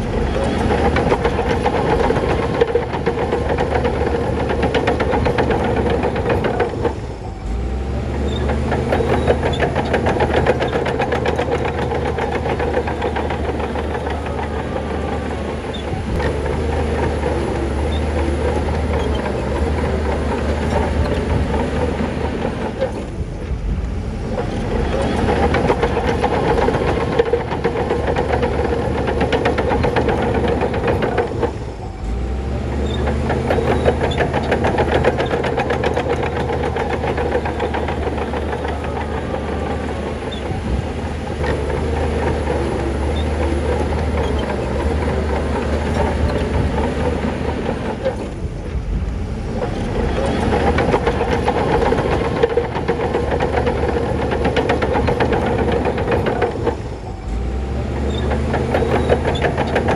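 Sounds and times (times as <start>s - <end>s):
diesel engine under load: 0.0s - 59.9s
steel tracks clanking: 0.0s - 59.9s.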